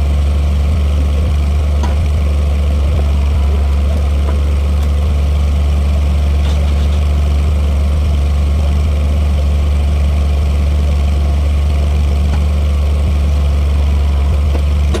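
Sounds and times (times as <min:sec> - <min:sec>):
motor running with low hum: 0:00.0 - 0:15.0.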